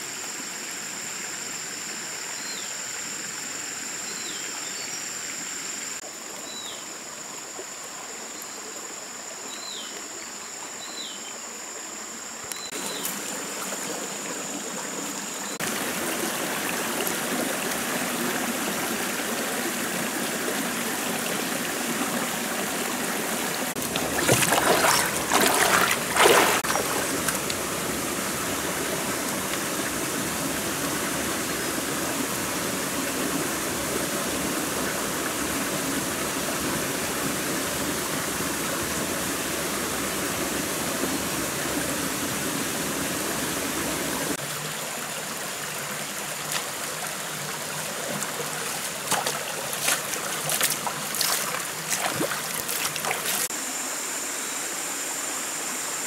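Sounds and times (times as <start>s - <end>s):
stream running over rocks: 0.0s - 53.9s.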